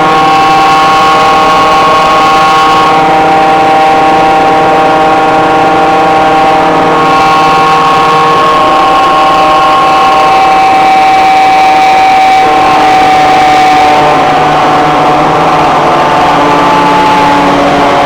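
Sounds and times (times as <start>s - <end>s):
air compressor running loudly: 0.0s - 18.0s.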